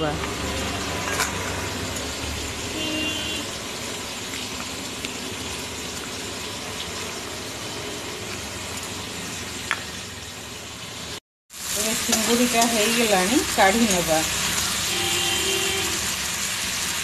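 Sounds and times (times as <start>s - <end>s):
prawns frying in hot oil: 0.0s - 17.0s.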